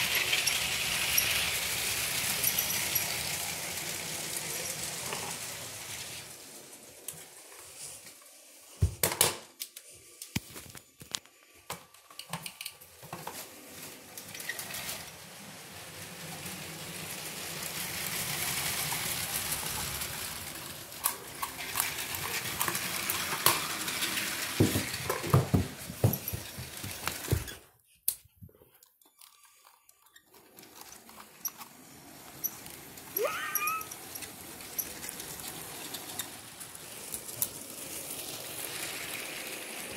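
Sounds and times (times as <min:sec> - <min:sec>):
toy train whirring: 0:00.0 - 0:08.6, 0:11.0 - 0:27.6, 0:28.7 - 0:39.9.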